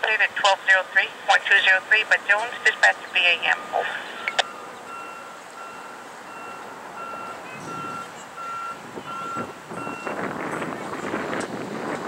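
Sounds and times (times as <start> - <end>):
traffic noise: 0.0 - 12.0
vehicle backup alarm beeping: 0.3 - 10.7.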